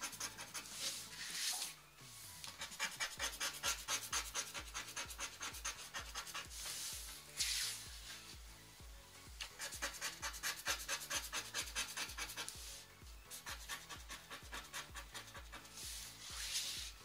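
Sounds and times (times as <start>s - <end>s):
scratch card being scratched: 0.0s - 8.3s, 9.4s - 17.0s
background music with beat: 0.0s - 17.0s.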